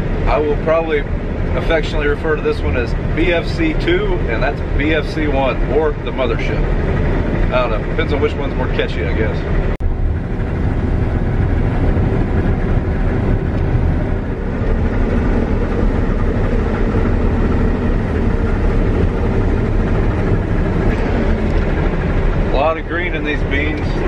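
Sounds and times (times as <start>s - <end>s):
combine harvester engine droning: 0.0s - 24.0s.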